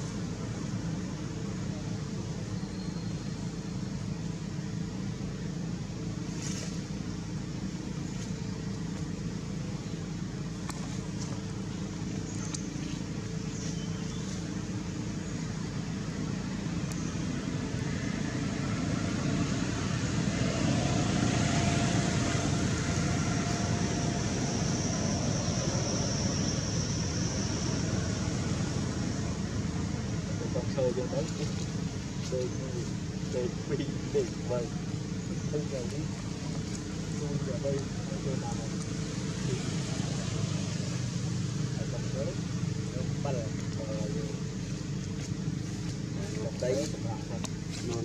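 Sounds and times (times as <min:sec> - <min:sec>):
engine running steadily: 0:00.0 - 0:48.0.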